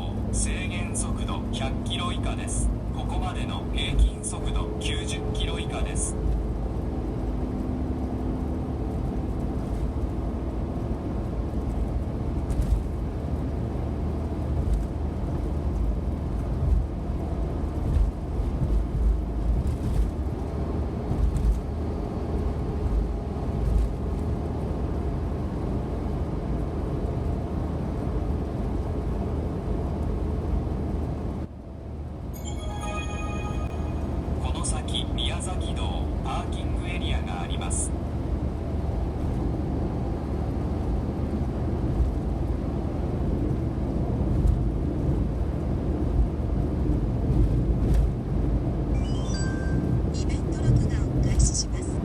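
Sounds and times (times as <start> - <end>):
van road and engine rumble: 0.0 - 32.4, 34.1 - 52.0.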